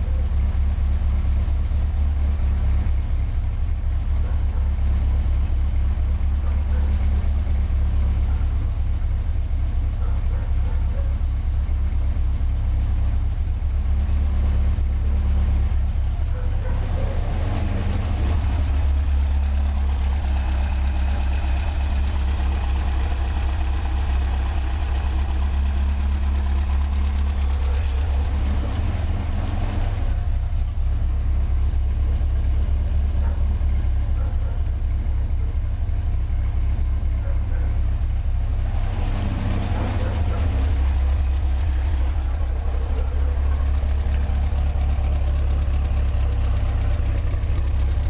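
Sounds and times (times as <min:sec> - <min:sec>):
car engine idling: 0:00.0 - 0:48.0
light tapping from engine: 0:00.0 - 0:48.0.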